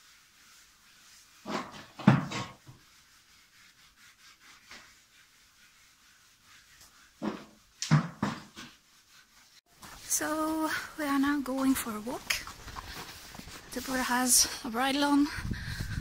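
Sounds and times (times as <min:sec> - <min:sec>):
brush rubbing horse coat: 0:00.0 - 0:16.0.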